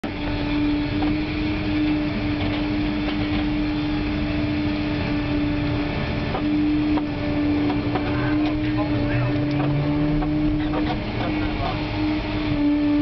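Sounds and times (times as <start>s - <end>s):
heavy machinery drone: 0.0s - 13.0s.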